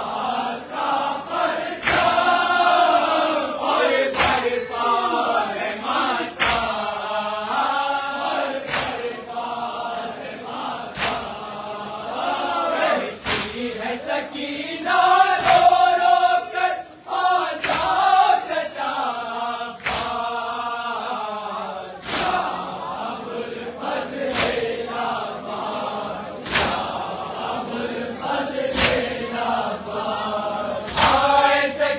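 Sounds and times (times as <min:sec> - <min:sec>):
men chanting a lament: 0:00.0 - 0:31.9.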